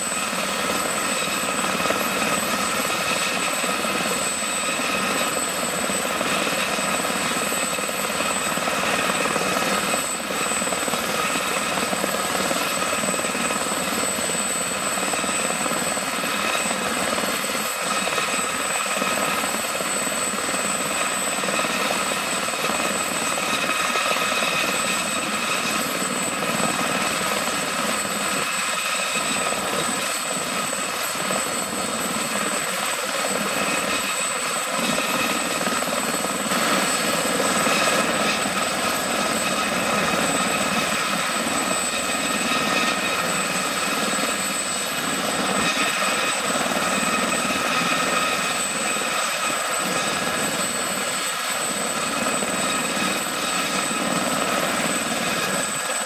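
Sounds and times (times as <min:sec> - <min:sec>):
helicopter turbine whine: 0:00.0 - 0:56.0.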